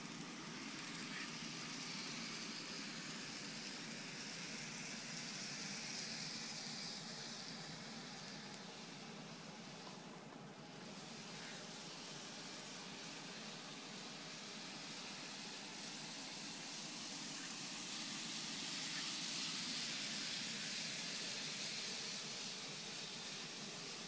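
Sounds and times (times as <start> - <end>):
model train whirring: 0.0 - 24.0.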